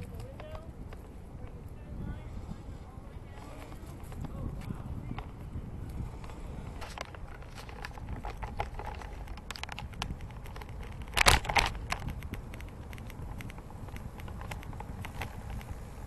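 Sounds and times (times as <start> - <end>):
bicycle clicks and rattles: 0.0 - 1.6, 3.4 - 16.0
bicycle tyres rumbling on pavement: 0.0 - 16.0
wind: 0.0 - 16.0.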